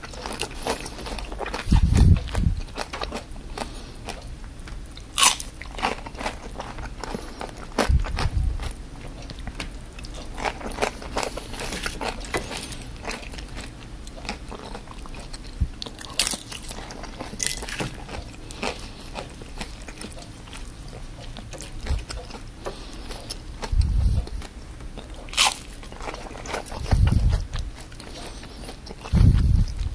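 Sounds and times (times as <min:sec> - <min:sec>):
person chewing crispy food: 0:00.0 - 0:29.9.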